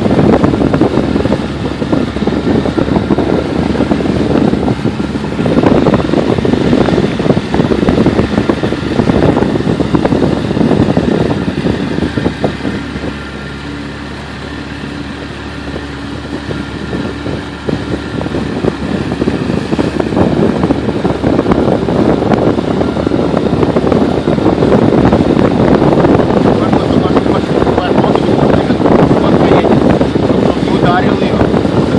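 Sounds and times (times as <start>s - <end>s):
motorboat engine running: 0.0s - 31.9s
wind buffeting microphone: 0.0s - 31.9s.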